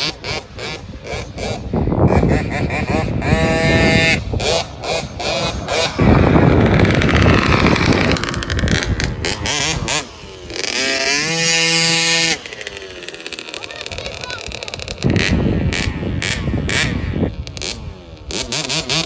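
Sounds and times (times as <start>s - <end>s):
dirt bike engine revving past: 0.0s - 19.0s.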